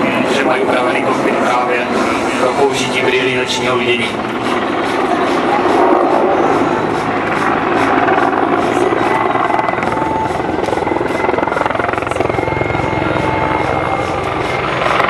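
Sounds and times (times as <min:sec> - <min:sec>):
helicopter rotor rumble: 0:00.0 - 0:15.0
high engine whine: 0:00.0 - 0:15.0.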